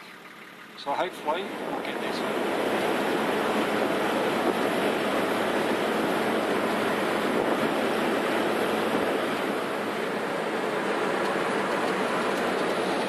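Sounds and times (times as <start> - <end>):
road and wind noise in car cabin: 0.0 - 13.0.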